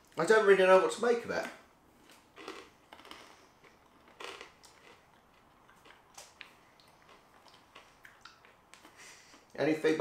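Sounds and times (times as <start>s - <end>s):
crunching clicks of chewing: 1.4s - 9.6s.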